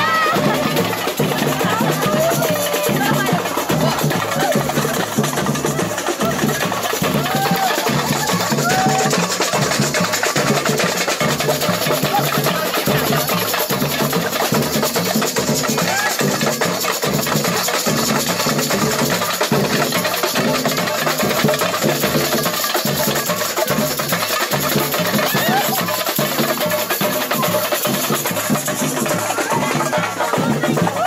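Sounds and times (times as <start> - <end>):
snare and hand percussion strokes: 0.0 - 31.0
surdo bass drum beats: 0.0 - 31.0.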